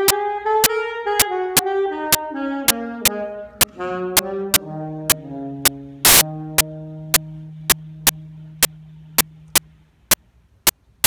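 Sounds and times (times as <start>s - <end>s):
saxophone and strings chord: 0.0s - 10.0s.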